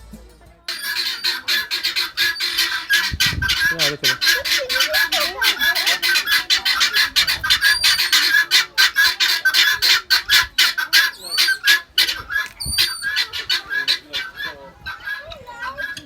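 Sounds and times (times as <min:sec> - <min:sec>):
farm birds calling: 0:00.7 - 0:16.0.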